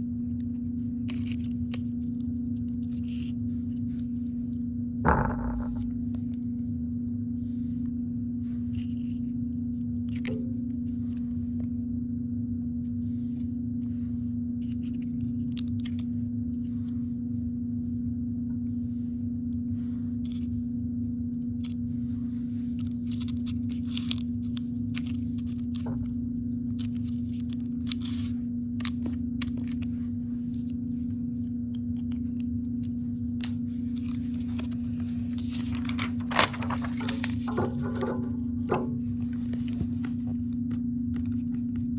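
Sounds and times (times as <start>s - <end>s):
low hum: 0.0s - 41.9s.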